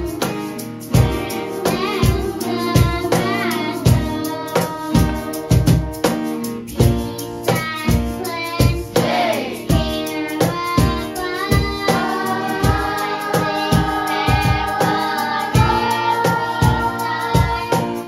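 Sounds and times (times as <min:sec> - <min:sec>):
children singing: 0:00.0 - 0:05.8, 0:08.2 - 0:18.0
steady beat: 0:00.0 - 0:07.2, 0:08.8 - 0:18.0
strummed acoustic guitar: 0:00.0 - 0:18.0.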